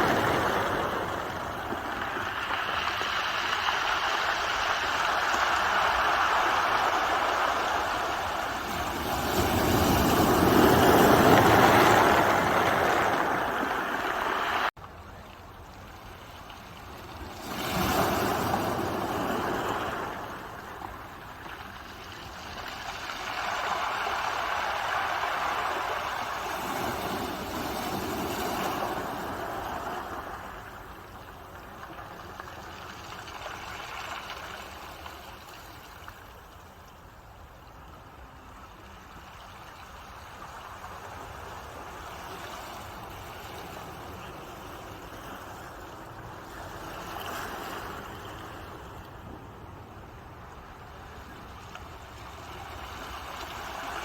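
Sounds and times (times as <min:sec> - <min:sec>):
ocean waves breaking on shore: 0:00.0 - 0:14.8, 0:15.8 - 0:54.0.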